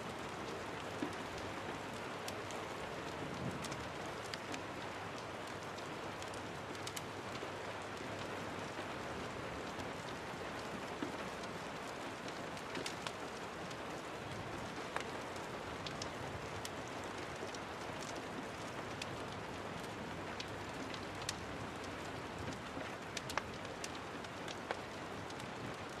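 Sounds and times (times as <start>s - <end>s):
steady rain falling: 0.0s - 26.0s
fireplace crackling and popping: 0.1s - 26.0s.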